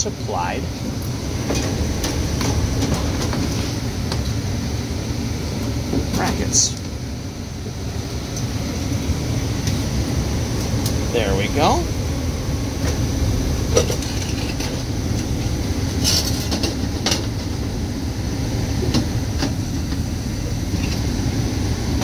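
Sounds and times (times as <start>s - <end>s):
furnace blower rumble: 0.0s - 22.0s.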